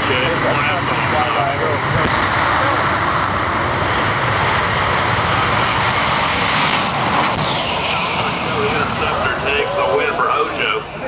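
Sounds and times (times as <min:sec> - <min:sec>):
jet engines roaring: 0:00.0 - 0:11.0
high whine falling in pitch: 0:00.1 - 0:11.0.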